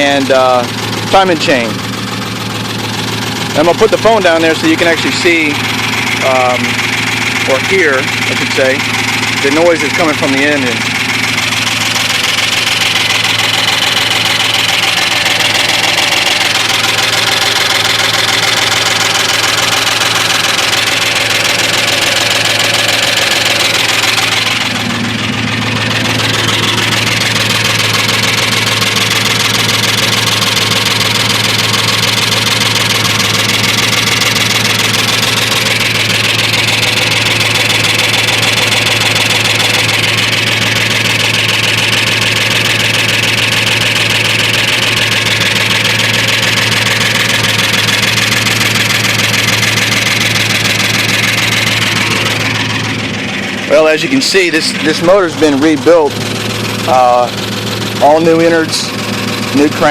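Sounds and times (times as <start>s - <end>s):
engine ticking: 0.0s - 59.9s
truck engine idling: 0.0s - 59.9s.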